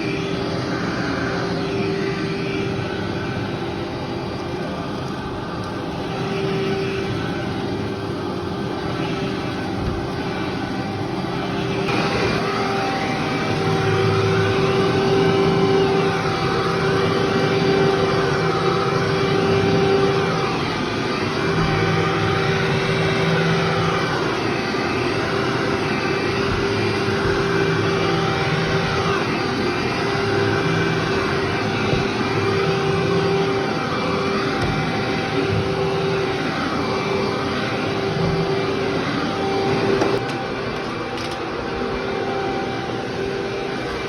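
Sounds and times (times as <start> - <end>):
vacuum cleaner on carpet: 0.0 - 44.0.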